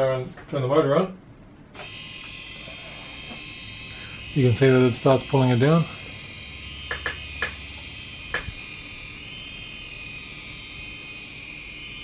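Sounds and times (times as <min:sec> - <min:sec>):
gear motor whining: 0:01.8 - 0:12.0.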